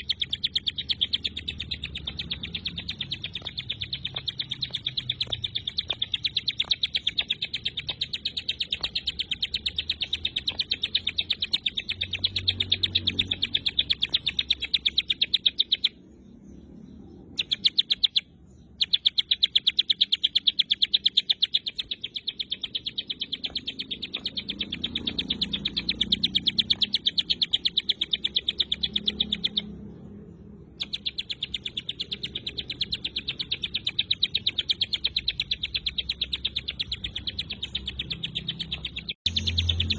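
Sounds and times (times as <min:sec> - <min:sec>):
bird singing rapid trill: 0:00.0 - 0:39.9.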